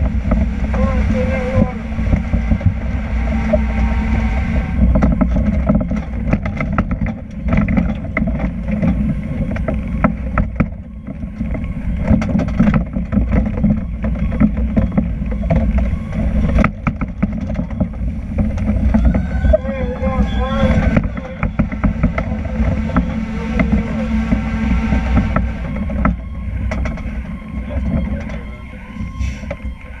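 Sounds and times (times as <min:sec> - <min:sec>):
cab and equipment rattling: 0:00.0 - 0:30.0
heavy truck engine and road rumble: 0:00.0 - 0:30.0.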